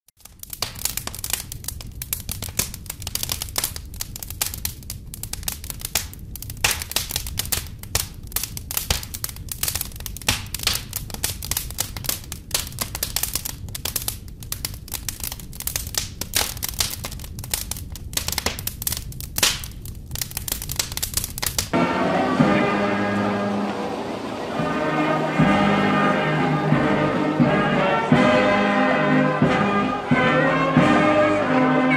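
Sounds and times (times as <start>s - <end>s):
bonfire crackling and popping: 0.1s - 31.9s.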